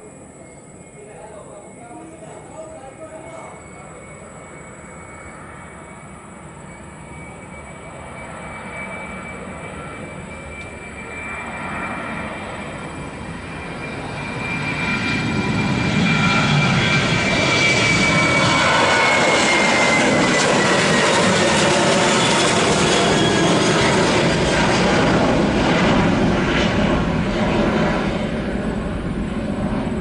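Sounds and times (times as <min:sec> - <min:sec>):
airliner engines: 0:00.0 - 0:30.0
high jet whine: 0:00.0 - 0:30.0.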